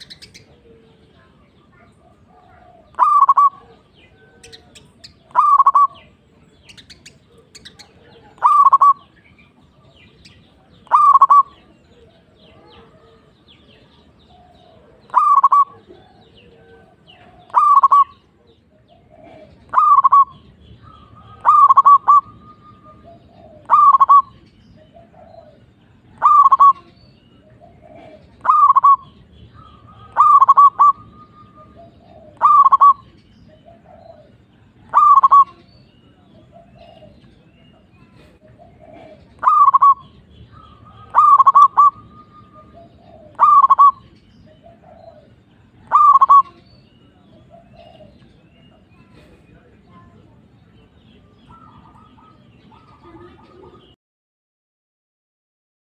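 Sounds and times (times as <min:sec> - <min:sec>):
dove cooing song: 0:00.0 - 0:49.2, 0:50.8 - 0:54.0
soft bird calls: 0:00.0 - 0:54.0.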